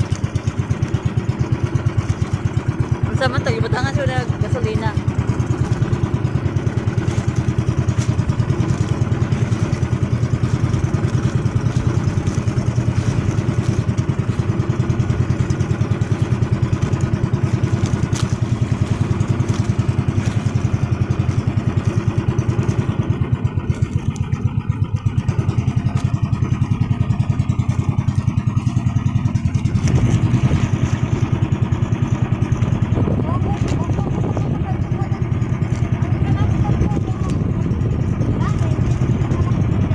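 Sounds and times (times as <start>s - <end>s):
boat engine pulsing: 0.0s - 39.9s.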